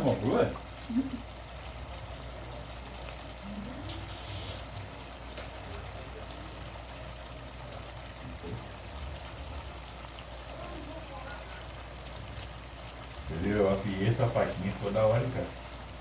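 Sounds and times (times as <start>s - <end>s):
meat and onions sizzling in a pan: 0.0s - 16.0s.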